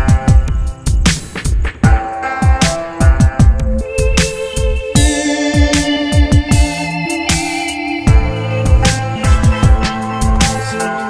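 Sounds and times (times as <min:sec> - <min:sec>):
electronic music with keyboard chords: 0:00.0 - 0:11.0.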